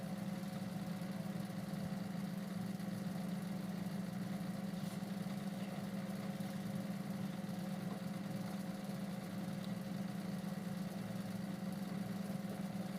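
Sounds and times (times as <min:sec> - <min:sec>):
low mechanical hum: 0:00.0 - 0:12.9.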